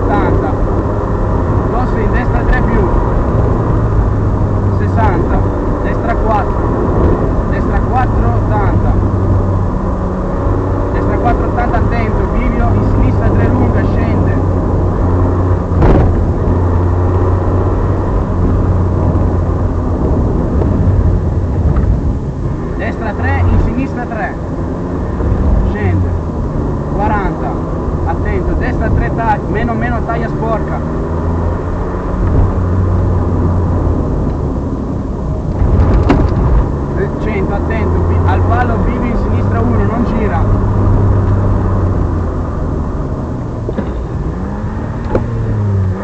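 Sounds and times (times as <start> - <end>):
rally car engine under load: 0.0 - 46.0
tyre and road noise: 0.0 - 46.0.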